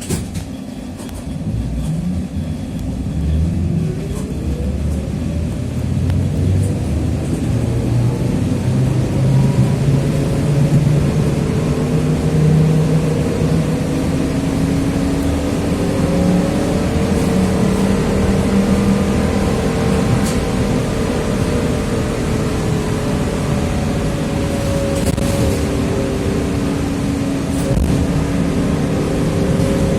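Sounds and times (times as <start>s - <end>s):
road rumble: 0.0s - 29.9s
trolleybus motor and gear whine: 0.0s - 29.9s.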